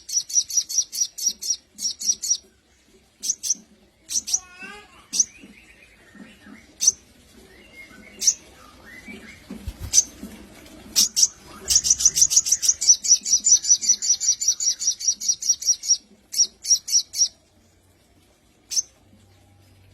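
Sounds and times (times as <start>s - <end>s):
bird chirping: 0.0s - 2.6s, 3.2s - 10.1s, 11.0s - 17.4s, 18.6s - 19.3s.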